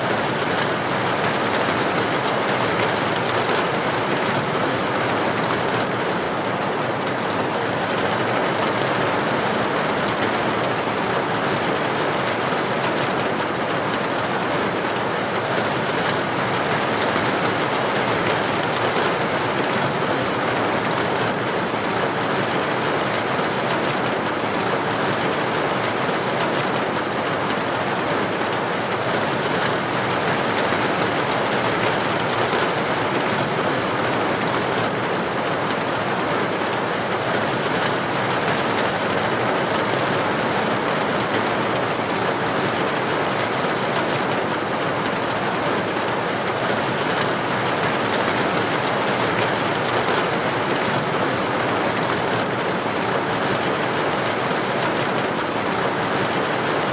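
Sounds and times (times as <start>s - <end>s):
heavy rain on street: 0.0s - 56.9s.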